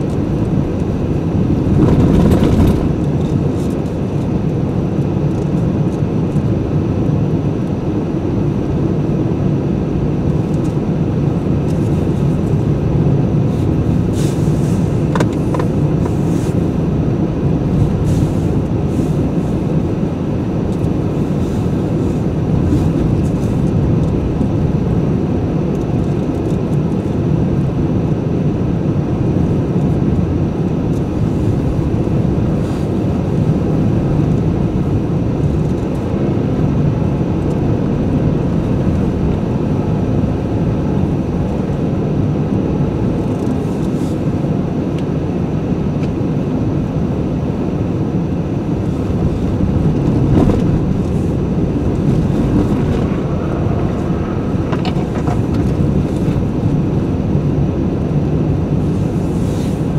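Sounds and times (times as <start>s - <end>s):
car tyres and engine rumble on snow: 0.0s - 59.9s.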